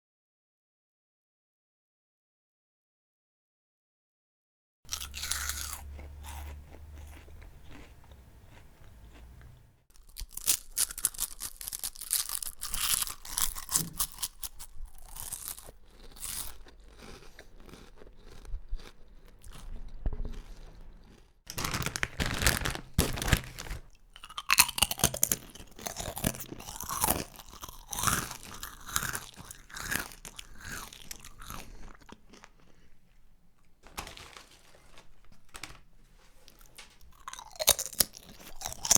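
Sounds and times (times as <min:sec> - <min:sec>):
person chewing crunchy snacks: 0:04.9 - 0:38.9.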